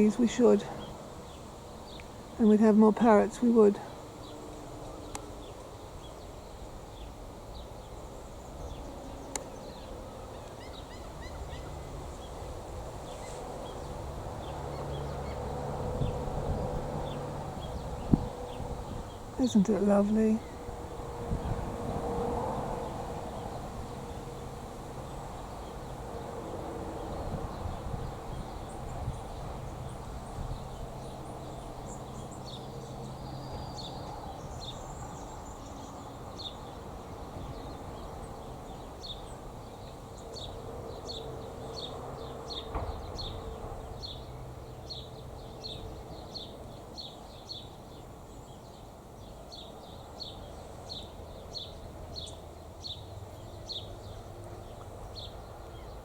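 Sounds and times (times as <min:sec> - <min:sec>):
low outdoor background noise: 0:00.0 - 0:56.0.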